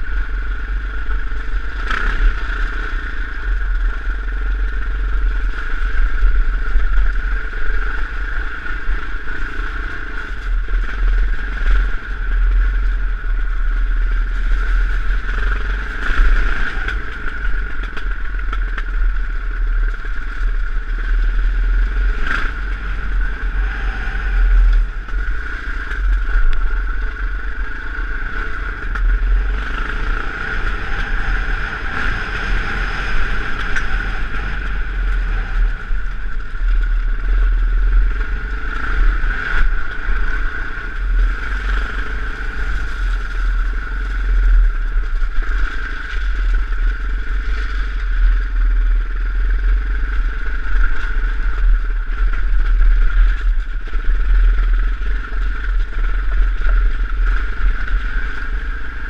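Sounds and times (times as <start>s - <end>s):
off-road motorcycle engine: 0.0s - 59.0s.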